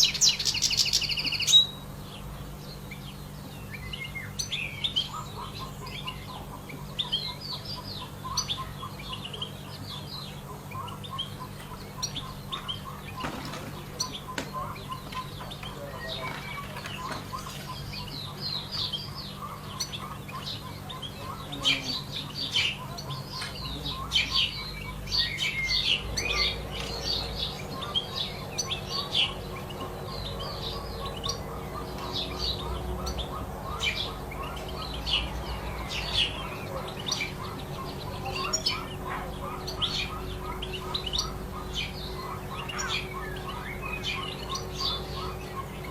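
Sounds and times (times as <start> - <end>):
goldfinch twittering chirps: 0.0 - 45.9
steady low hum: 0.0 - 45.9.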